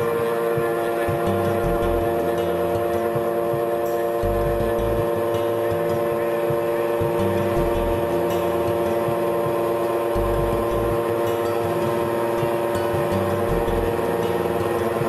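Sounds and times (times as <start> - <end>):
plane engine idling: 0.0 - 15.0.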